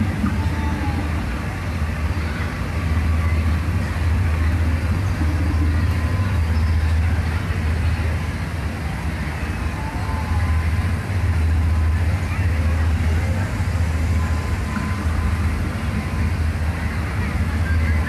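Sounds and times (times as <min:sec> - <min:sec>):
faint voices: 0:00.0 - 0:18.0
low motor hum: 0:00.0 - 0:18.0.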